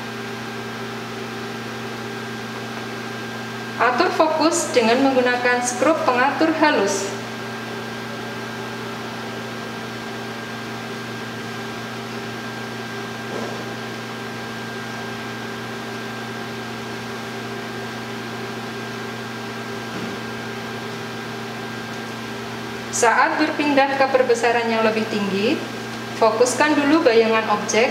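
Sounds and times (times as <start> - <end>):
electrical hum with tones: 0.0 - 27.9.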